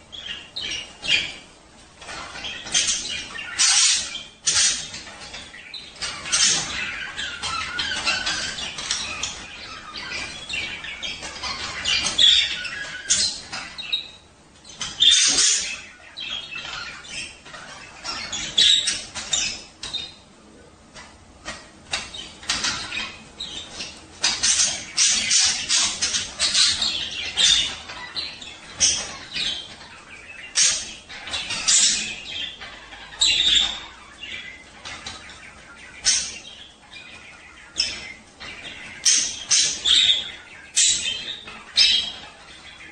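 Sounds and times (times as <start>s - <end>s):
budgerigars chirping and chattering: 0.0s - 42.9s.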